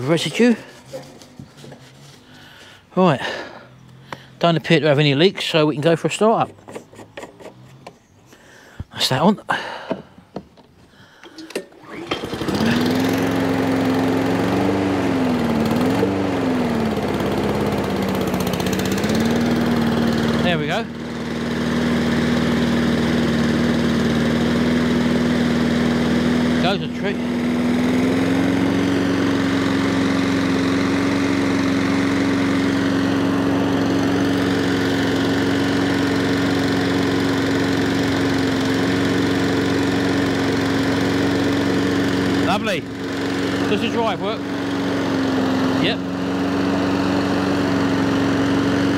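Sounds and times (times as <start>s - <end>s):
lawn mower engine starting: 0.0s - 48.9s.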